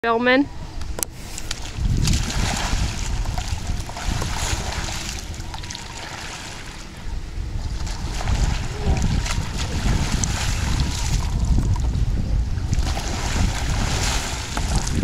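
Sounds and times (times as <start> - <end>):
wind rumble on microphone: 0.5 - 15.0
paddle sweeps in water: 1.2 - 6.9, 7.6 - 11.8, 12.7 - 15.0
water splashing: 1.4 - 11.9, 12.6 - 15.0.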